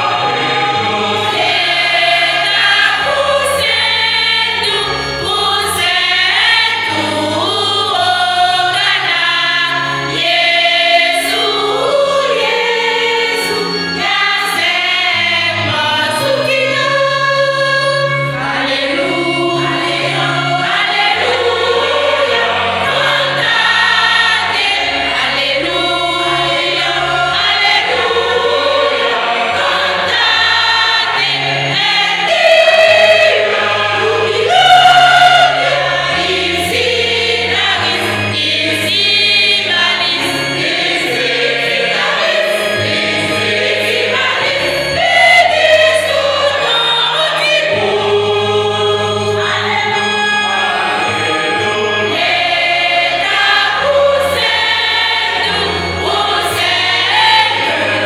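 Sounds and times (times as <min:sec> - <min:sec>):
choir singing gospel song: 0:00.0 - 0:58.0.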